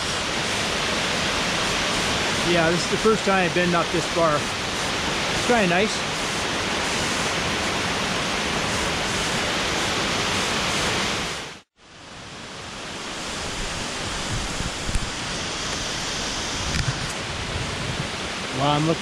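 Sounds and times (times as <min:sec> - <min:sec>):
waterfall rushing: 0:00.0 - 0:11.6, 0:12.6 - 0:19.0.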